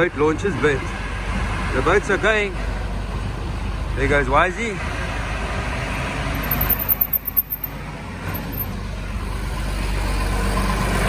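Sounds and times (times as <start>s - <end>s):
tractor engine rumbling: 0.4s - 11.0s.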